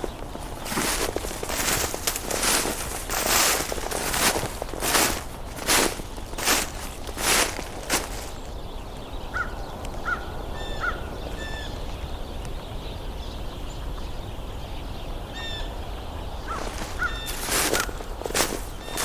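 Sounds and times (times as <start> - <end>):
sparrows chirping and squabbling: 0.0 - 19.0.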